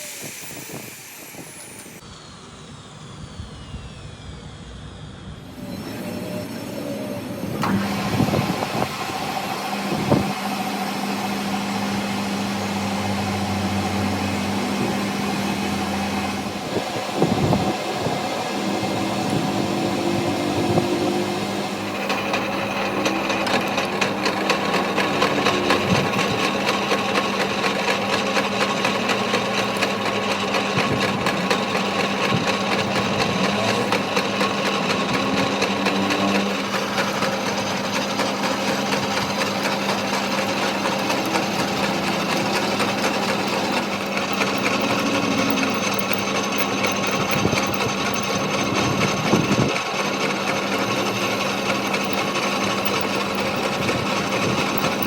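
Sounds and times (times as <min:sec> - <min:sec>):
power tool running with rattle: 0:00.0 - 0:55.0.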